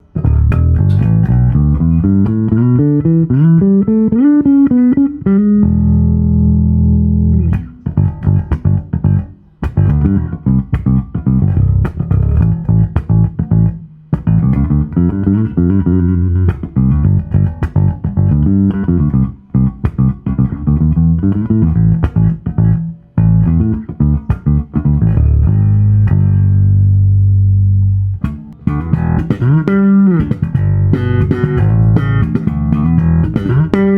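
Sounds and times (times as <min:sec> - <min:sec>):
electric bass playing: 0:00.0 - 0:33.9.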